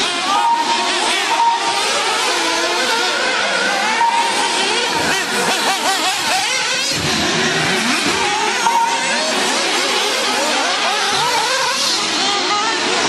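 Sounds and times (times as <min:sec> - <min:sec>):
rc car engines revving: 0:00.0 - 0:13.0.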